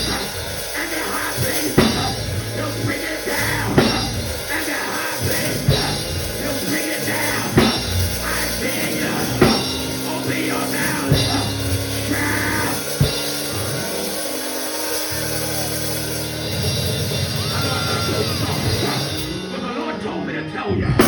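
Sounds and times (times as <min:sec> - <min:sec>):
drum kit hits: 0:00.0 - 0:19.9
church band playing: 0:00.0 - 0:21.0.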